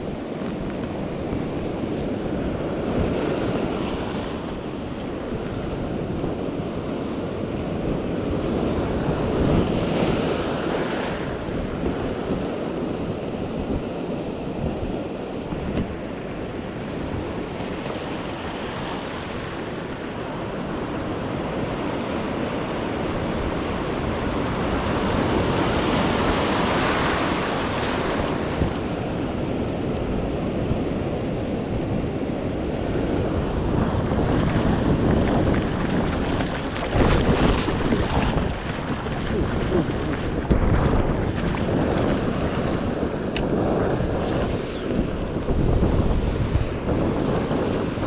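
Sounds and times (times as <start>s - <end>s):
sea waves washing in: 0.0s - 48.0s
wind buffeting microphone: 0.0s - 48.0s.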